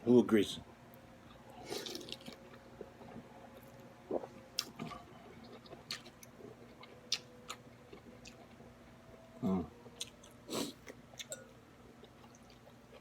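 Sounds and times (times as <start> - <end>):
faint steady hum: 0.0 - 13.0
person chewing food: 1.2 - 9.2, 9.8 - 13.0.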